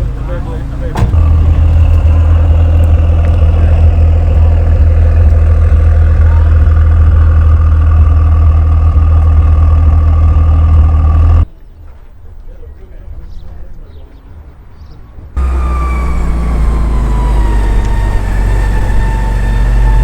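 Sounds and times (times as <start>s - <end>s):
car engine idling: 0.0s - 11.5s, 15.4s - 20.0s.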